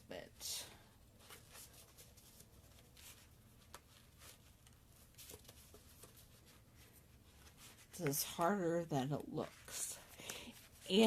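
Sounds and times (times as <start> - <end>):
paper sheets rustling: 1.2 - 11.0.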